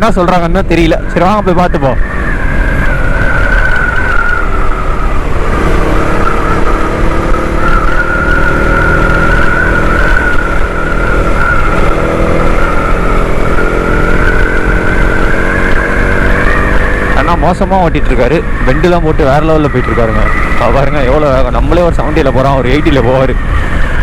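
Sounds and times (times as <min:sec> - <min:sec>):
wind rush on microphone: 0:00.0 - 0:24.0
motorcycle engine running: 0:02.0 - 0:24.0.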